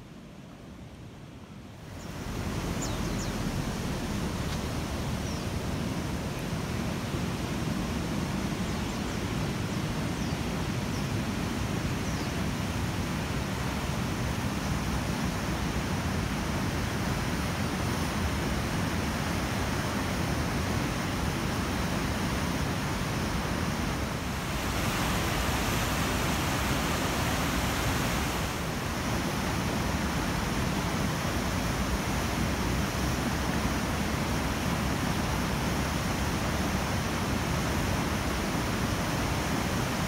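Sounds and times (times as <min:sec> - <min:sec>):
river water rushing: 0:01.8 - 0:09.0, 0:10.6 - 0:40.0.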